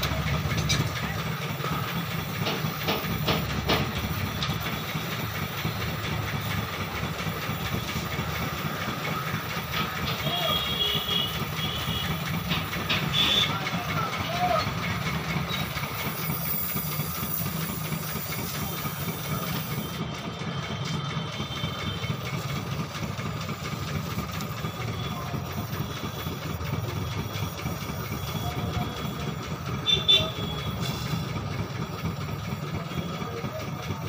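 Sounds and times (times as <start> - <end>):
gas torch burning: 0.0 - 34.0.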